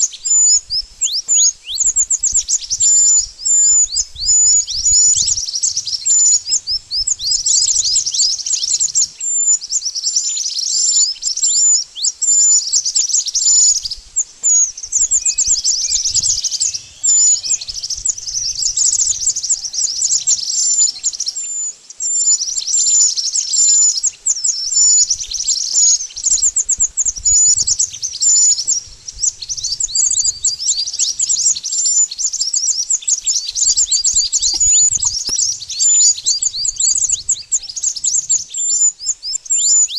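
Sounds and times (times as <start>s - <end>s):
bird chirping in trilled phrases: 0.0s - 39.9s.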